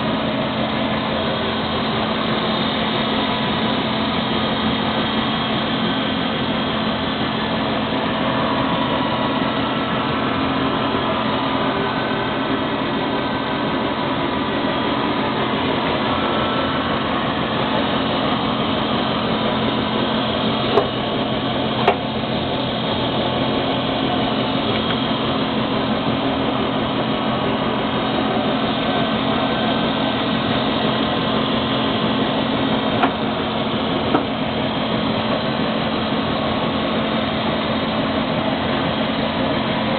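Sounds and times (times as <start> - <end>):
drilling machine humming: 0.0 - 39.9.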